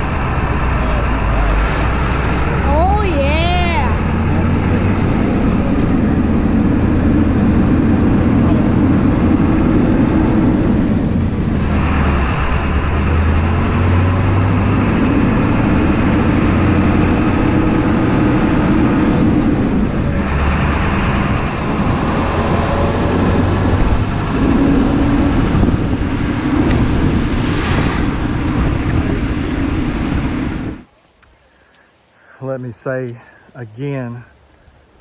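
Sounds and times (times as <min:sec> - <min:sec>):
strong low hum: 0:00.0 - 0:30.9
vehicle engine and road noise: 0:00.0 - 0:35.0.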